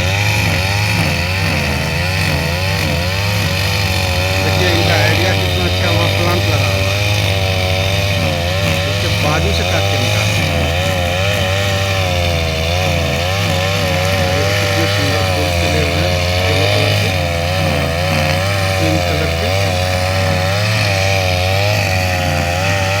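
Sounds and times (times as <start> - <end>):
brush cutter engine cutting grass: 0.0 - 23.0.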